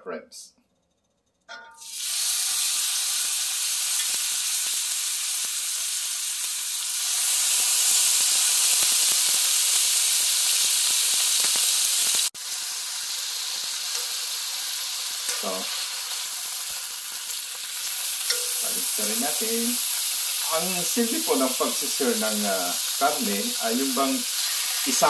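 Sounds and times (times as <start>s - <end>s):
meat sizzling in oil: 1.8s - 25.0s.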